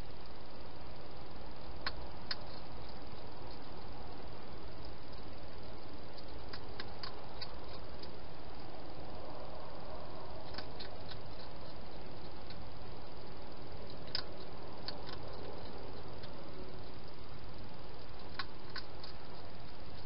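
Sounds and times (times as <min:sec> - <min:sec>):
steady hiss: 0:00.0 - 0:20.0
hedgehog chewing: 0:01.6 - 0:20.0.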